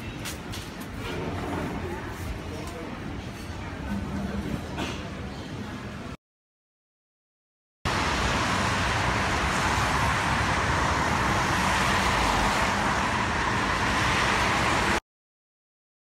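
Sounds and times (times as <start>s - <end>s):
road traffic rumble and hiss: 0.0s - 6.2s, 7.9s - 15.0s.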